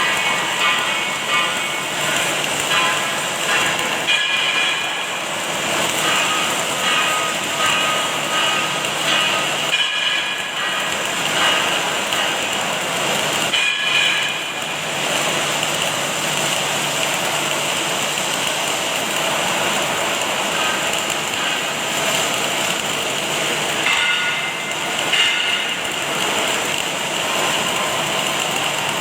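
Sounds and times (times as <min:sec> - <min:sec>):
arc welding crackling hiss: 0:00.0 - 0:29.0.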